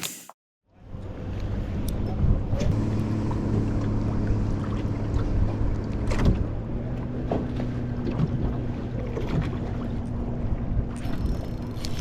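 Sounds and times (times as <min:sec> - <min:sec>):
boat motor running: 0:01.0 - 0:12.0.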